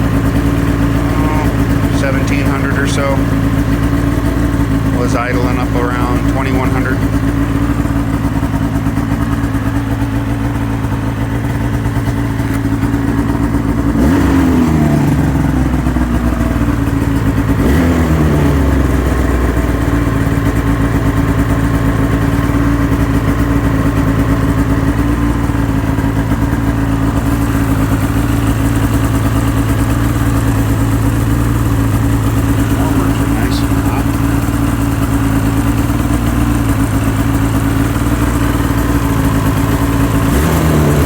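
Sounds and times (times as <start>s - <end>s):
snowmobile engine idling: 0.0s - 41.0s.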